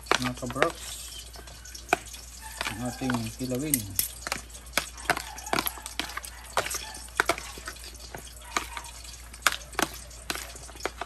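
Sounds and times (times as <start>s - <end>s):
wet food being tossed: 0.0s - 11.0s
fork clicking on plastic tub: 1.9s - 11.0s.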